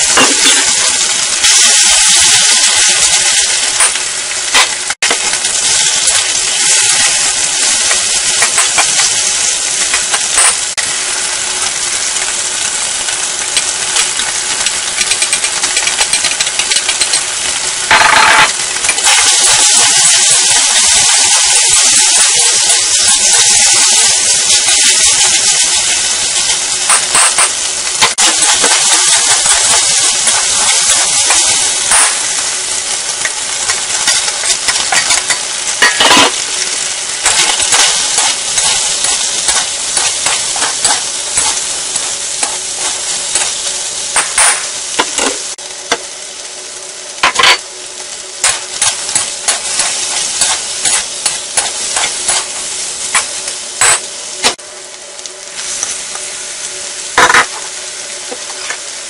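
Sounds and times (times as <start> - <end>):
food sizzling in a wok: 0.0 - 59.0.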